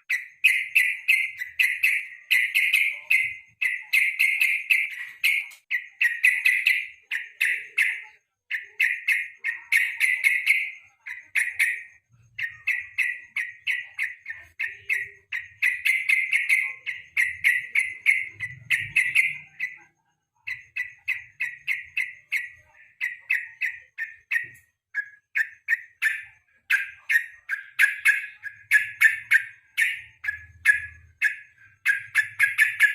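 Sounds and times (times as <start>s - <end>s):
bulbul singing chattering phrases: 0.0s - 32.9s.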